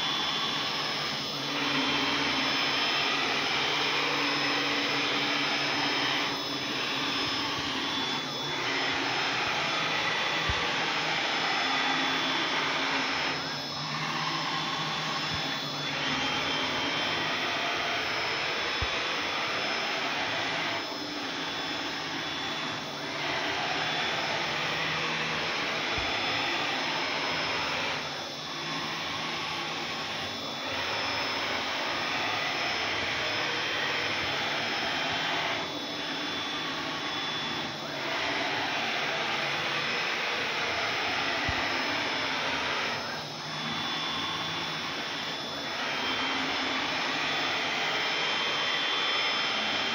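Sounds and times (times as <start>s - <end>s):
cnc router whine and hiss: 0.0s - 49.9s.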